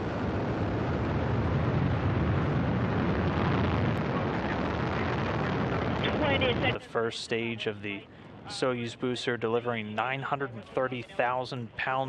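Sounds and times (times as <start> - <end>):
rocket engine deep rumble: 0.0 - 12.0.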